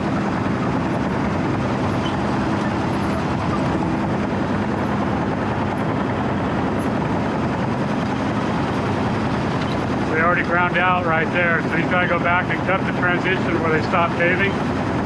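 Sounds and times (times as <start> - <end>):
diesel engine of milling machine: 0.0 - 15.0.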